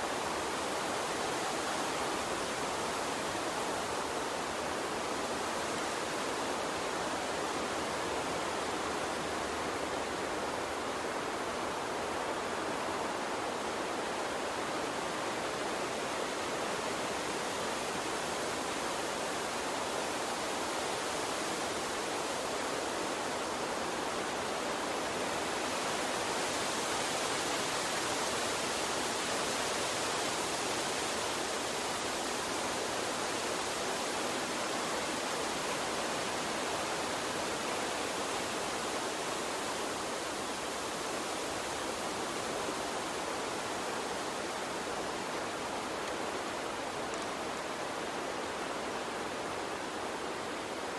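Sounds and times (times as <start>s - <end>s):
small stream flowing: 0.0s - 50.9s.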